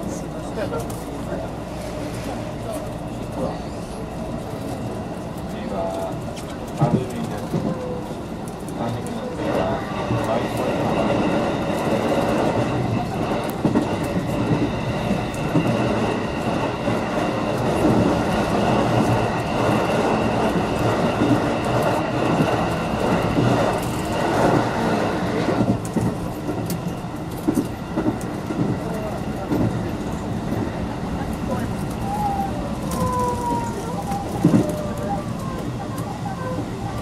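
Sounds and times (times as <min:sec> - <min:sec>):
train wheels running on rails: 0:00.0 - 0:37.0.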